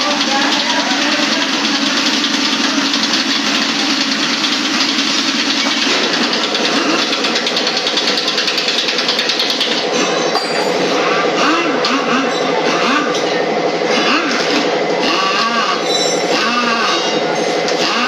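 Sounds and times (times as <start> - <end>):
motorcycle engine running: 0.0 - 10.2, 10.8 - 18.0.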